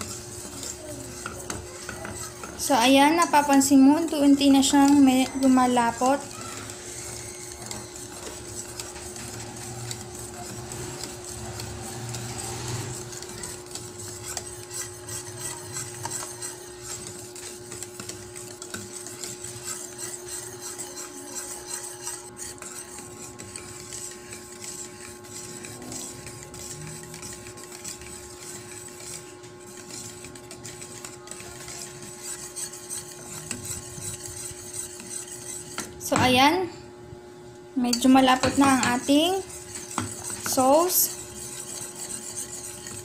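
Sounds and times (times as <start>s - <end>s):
spoon scraping a pan: 0.0s - 36.6s, 37.8s - 43.0s
steady hum: 0.0s - 43.0s.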